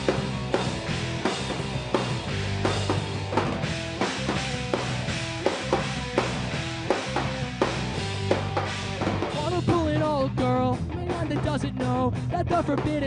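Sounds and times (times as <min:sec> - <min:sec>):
drum-kit beat: 0:00.0 - 0:13.0
pop-punk band playing: 0:00.0 - 0:13.0.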